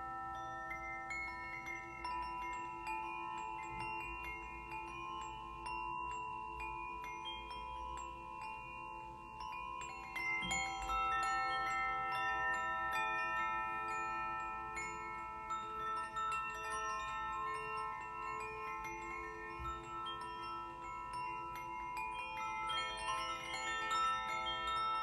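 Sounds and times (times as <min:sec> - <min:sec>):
high tinkles: 0:00.0 - 0:25.0
small bells ringing: 0:00.0 - 0:25.0.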